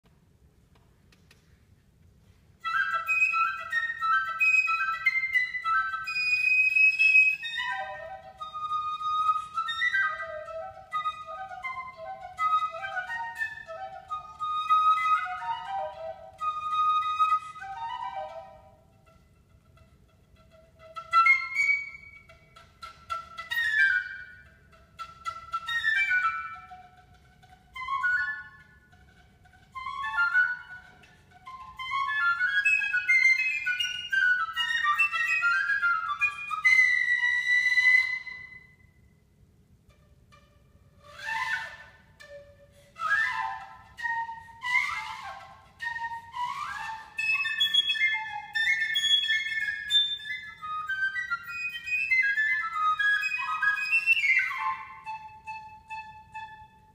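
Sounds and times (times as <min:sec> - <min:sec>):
solo piccolo playing fast: 0:02.6 - 0:39.0, 0:39.9 - 0:56.9.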